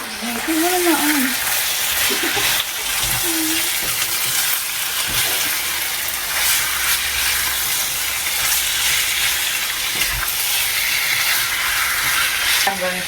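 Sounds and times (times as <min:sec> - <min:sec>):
chicken sizzling in a pan: 0:00.0 - 0:13.0
food being stirred: 0:00.0 - 0:13.0.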